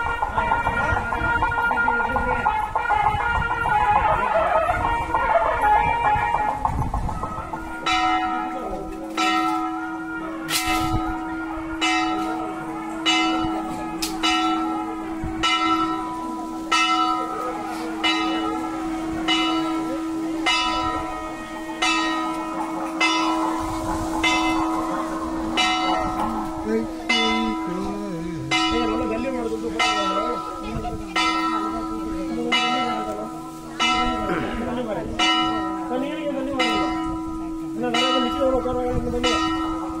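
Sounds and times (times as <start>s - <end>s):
temple bell ringing: 0.0s - 40.0s.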